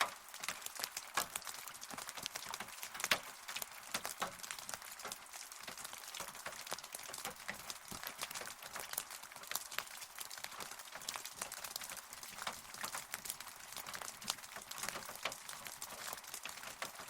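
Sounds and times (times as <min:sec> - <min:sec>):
rain drops on hard surface: 0:00.0 - 0:17.0.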